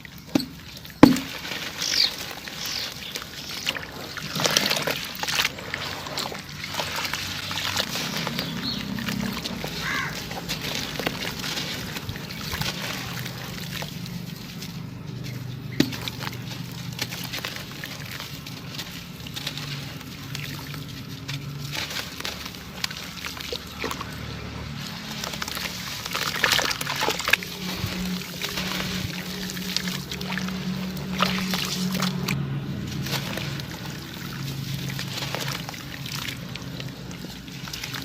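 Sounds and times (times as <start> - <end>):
sand cement crushed and crackling: 0.0 - 38.0.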